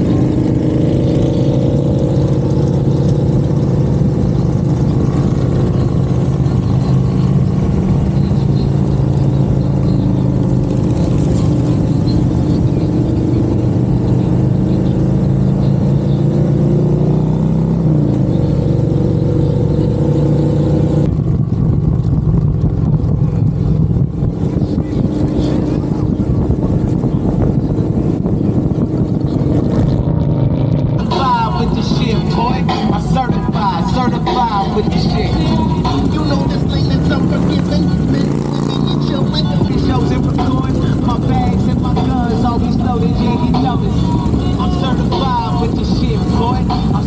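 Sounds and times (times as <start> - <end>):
motorcycle engine running: 0.0 - 47.0
road and wind noise: 0.0 - 47.0.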